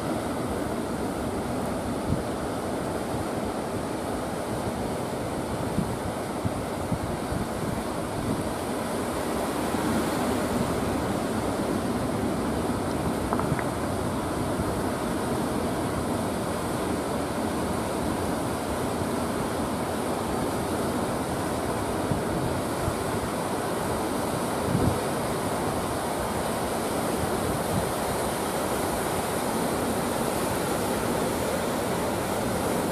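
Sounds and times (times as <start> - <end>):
ocean surf breaking: 0.0 - 32.9.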